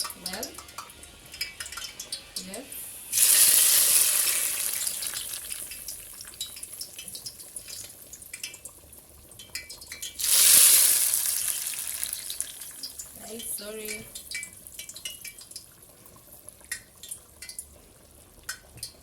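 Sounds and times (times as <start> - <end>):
chicken bubbling in a pot: 0.0 - 19.0
oil sizzling in a pot: 0.0 - 19.0.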